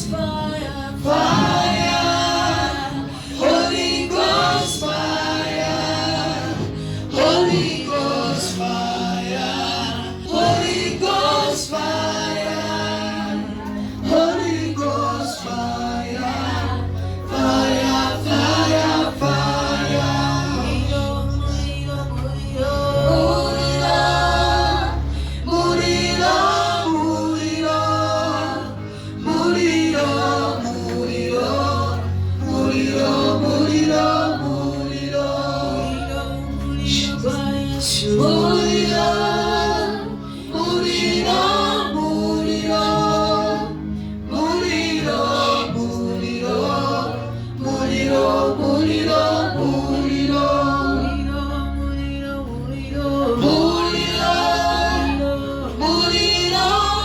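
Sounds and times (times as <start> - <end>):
bass accompaniment: 0.0 - 57.0
voices singing together: 0.0 - 57.0.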